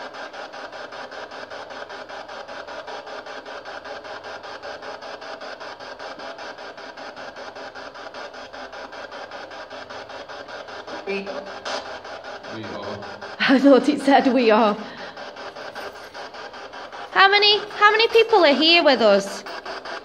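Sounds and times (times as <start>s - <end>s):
radio static chopped rhythmically: 0.0s - 20.0s.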